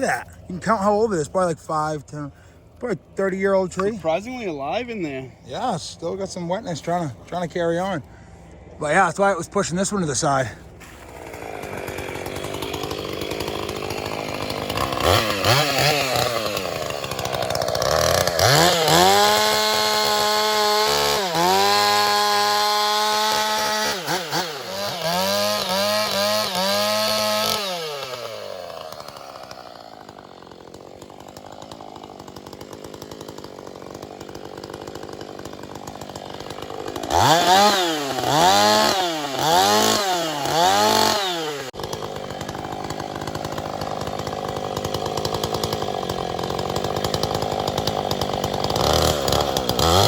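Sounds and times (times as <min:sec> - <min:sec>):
chainsaw revving: 0:00.0 - 0:50.0.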